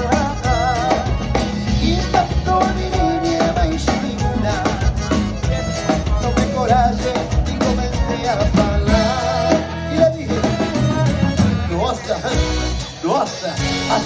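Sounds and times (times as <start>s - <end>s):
live band playing upbeat pop: 0.0s - 14.0s
person singing: 0.0s - 14.0s.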